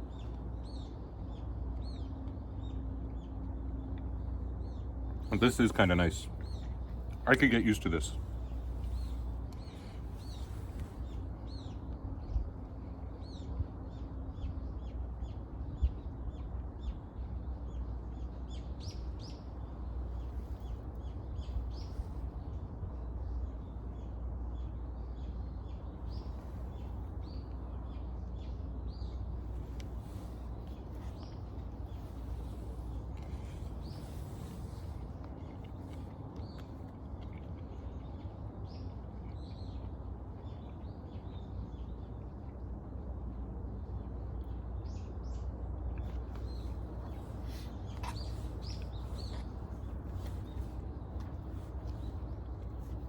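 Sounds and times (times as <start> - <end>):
wild birds chirping: 0.0 - 12.2, 13.2 - 22.4, 23.2 - 42.2, 44.8 - 53.0
low steady rumble: 0.0 - 53.0.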